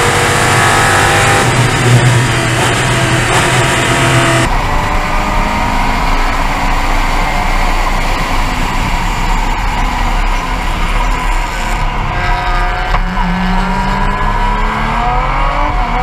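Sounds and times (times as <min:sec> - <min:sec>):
race car engine: 0:00.0 - 0:16.0
wind and road noise: 0:00.0 - 0:16.0.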